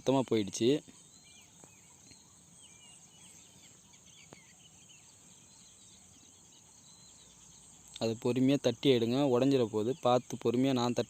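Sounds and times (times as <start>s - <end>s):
faint bird chirps: 0.0s - 11.0s
steady high hiss: 0.0s - 11.0s.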